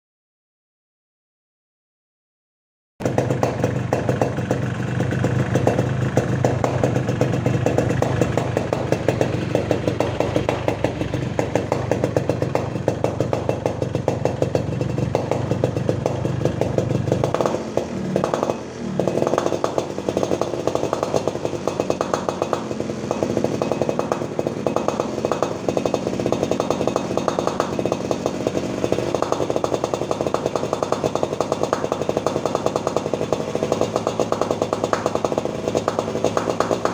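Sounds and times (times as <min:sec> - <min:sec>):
two-stroke motorcycle engine crackling: 0:03.0 - 0:36.9.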